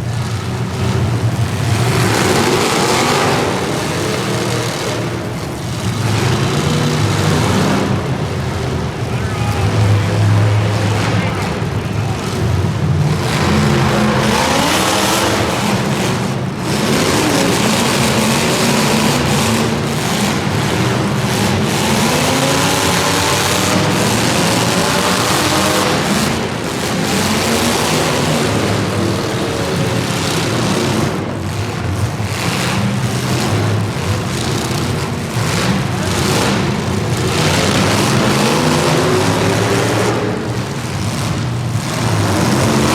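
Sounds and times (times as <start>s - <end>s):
racing engines revving: 0.0s - 42.9s.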